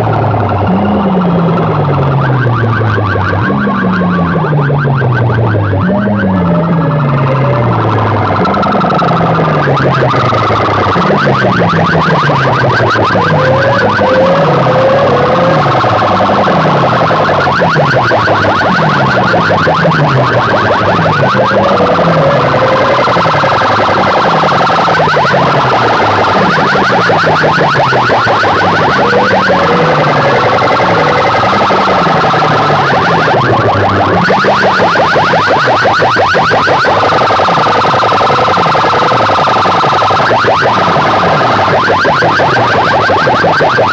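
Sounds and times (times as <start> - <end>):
electronic siren from loudspeakers: 0.0 - 43.9.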